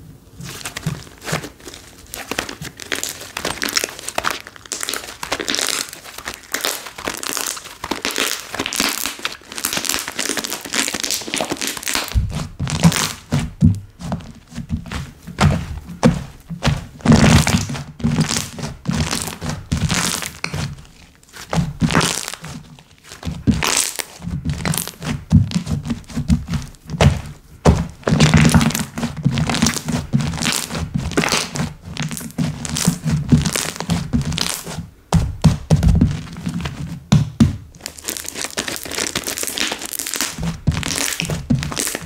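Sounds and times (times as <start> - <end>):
slime squished by hand: 0.4 - 36.9, 37.8 - 42.0.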